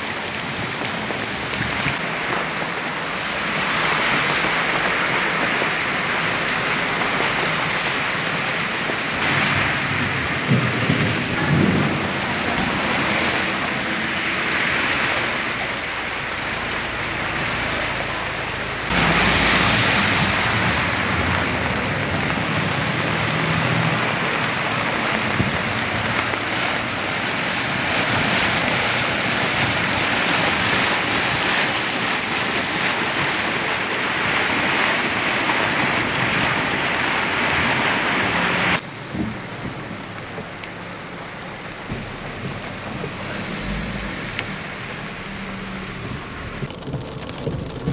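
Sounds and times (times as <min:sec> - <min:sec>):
car driving through floodwater: 0:00.0 - 0:47.9
torrential rain on flooded street: 0:00.0 - 0:47.9.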